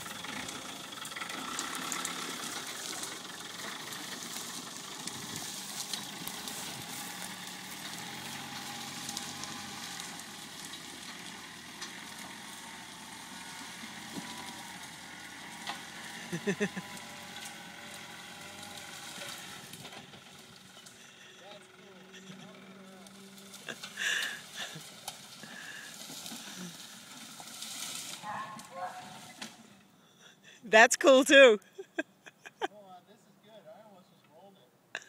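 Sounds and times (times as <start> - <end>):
outdoor noise: 0.0 - 35.0.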